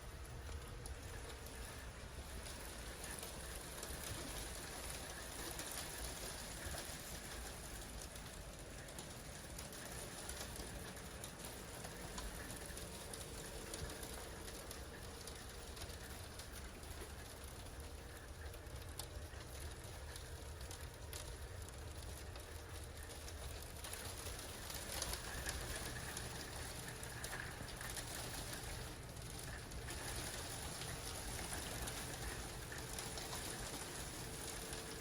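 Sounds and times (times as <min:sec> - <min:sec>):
patter of sleet: 0:00.1 - 0:35.0.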